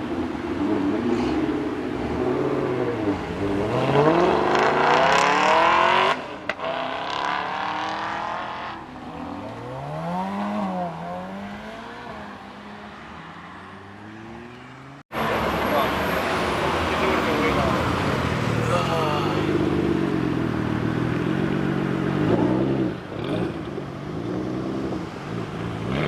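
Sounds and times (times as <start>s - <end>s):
sports car accelerating: 0.3s - 26.0s.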